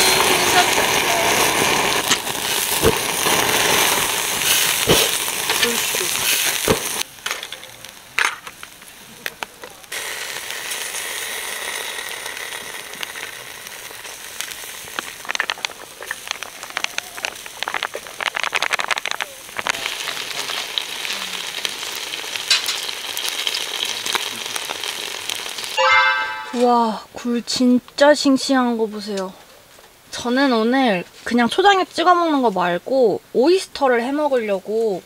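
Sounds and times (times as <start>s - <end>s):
camping burner hiss: 0.0s - 25.8s, 26.6s - 35.0s
scallops sizzling and bubbling: 0.0s - 35.0s.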